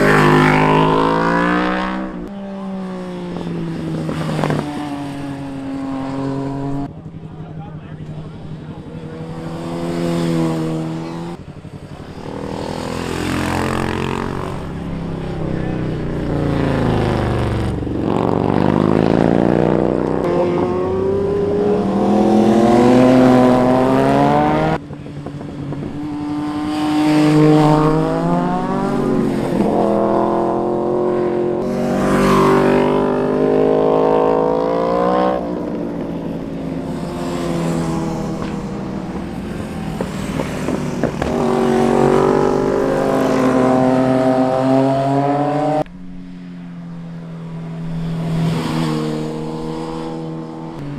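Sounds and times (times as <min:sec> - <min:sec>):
motorcycles passing and revving: 0:00.0 - 0:50.9.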